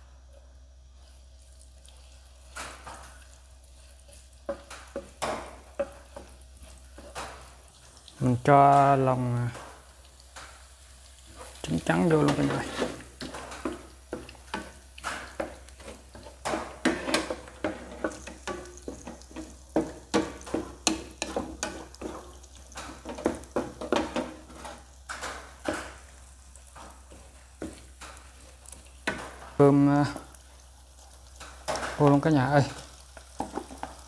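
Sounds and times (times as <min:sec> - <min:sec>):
eggs sizzling in oil: 0:00.0 - 0:34.0
wooden spatula scraping a pan: 0:00.4 - 0:34.0.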